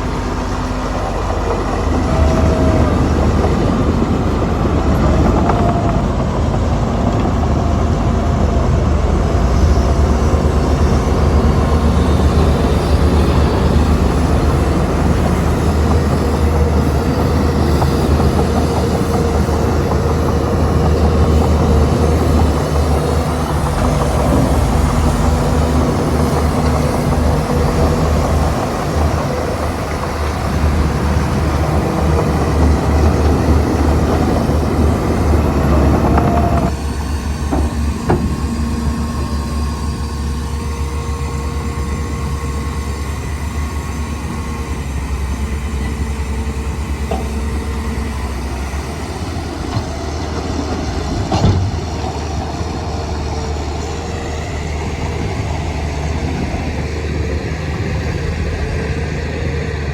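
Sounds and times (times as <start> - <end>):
bulldozer diesel engine running: 0.0 - 59.9
tracks rattling and clanking: 0.0 - 59.9.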